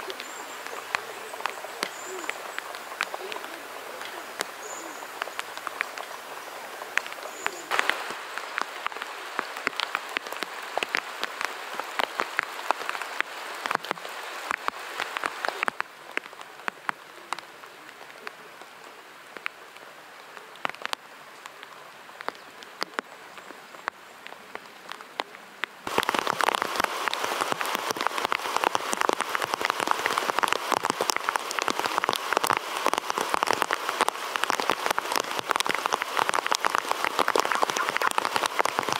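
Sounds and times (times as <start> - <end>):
rain falling on a tarp: 0.0 - 38.9.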